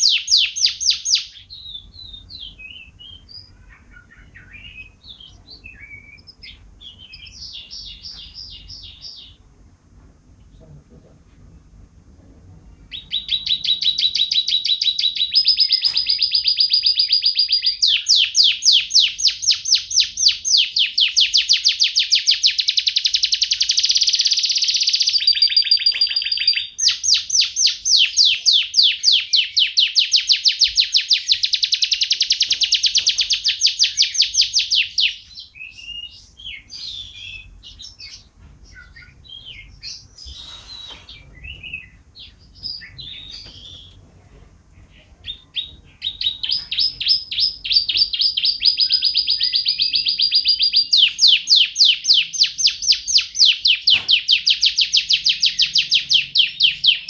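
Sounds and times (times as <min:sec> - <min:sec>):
canary singing trills: 0:00.0 - 0:09.5, 0:12.7 - 0:44.0, 0:44.8 - 0:57.0
canary chirps: 0:00.0 - 0:09.6, 0:12.7 - 0:44.0, 0:44.7 - 0:57.0.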